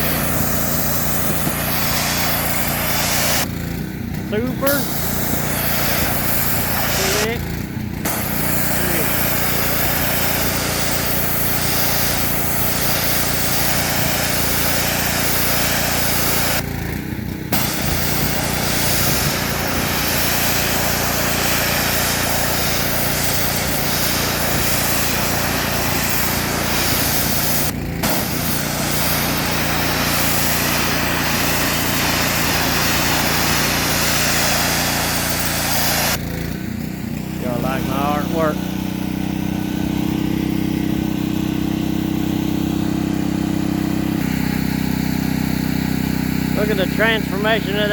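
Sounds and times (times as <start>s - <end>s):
pressure washer machine hum: 0.0s - 47.9s
pressure washer spraying water: 0.0s - 47.9s.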